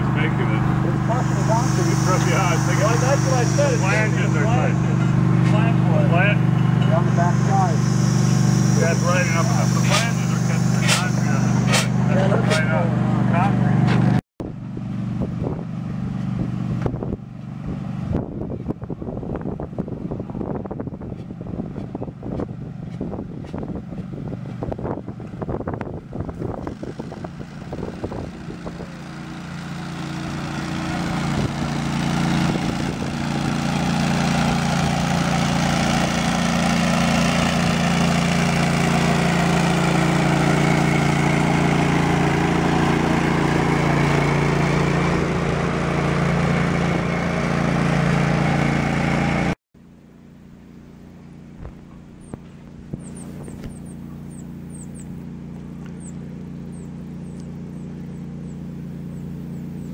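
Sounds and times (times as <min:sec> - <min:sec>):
air compressor engine running: 0:00.0 - 0:59.9.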